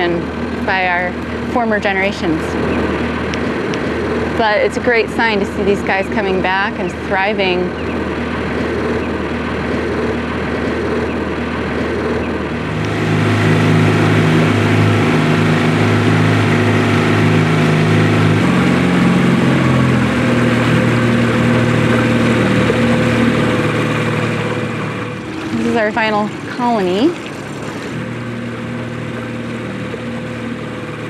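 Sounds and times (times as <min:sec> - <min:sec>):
motorboat engine running: 0:00.0 - 0:31.0.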